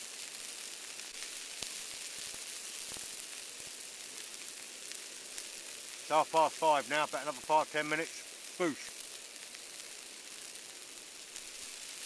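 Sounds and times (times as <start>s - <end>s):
bacon sizzling in a frying pan: 0.0s - 12.0s.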